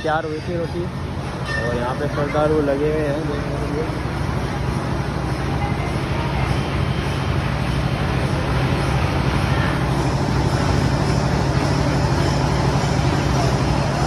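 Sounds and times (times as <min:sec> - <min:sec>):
thresher machine droning: 0:00.1 - 0:14.0.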